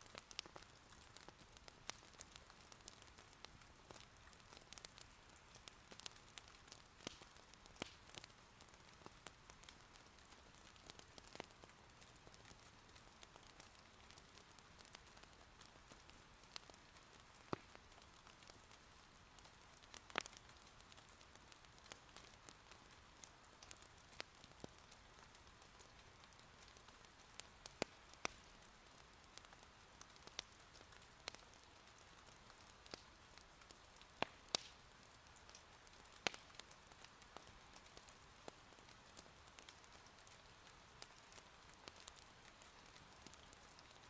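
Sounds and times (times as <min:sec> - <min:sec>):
firewood crackling and popping: 0:00.0 - 0:44.0
gentle rain patter: 0:00.0 - 0:44.0.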